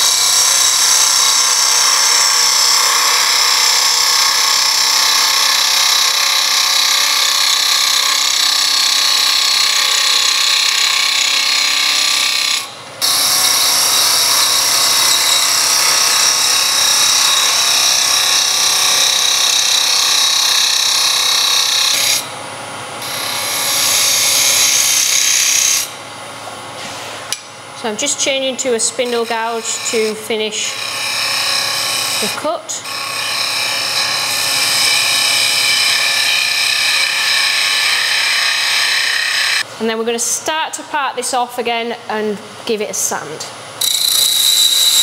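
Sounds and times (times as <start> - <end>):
lathe gouge cutting wood: 0.0 - 22.3, 23.0 - 25.9, 29.0 - 39.6, 43.8 - 45.0.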